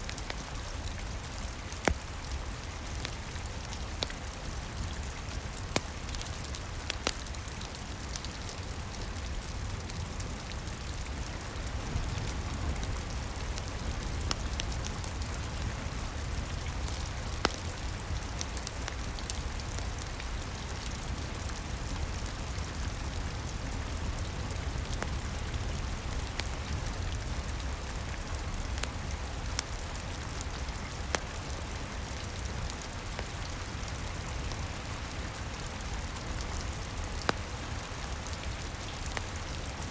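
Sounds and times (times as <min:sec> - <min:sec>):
log fire crackling and popping: 0:00.0 - 0:39.8
steady rain: 0:00.0 - 0:39.9.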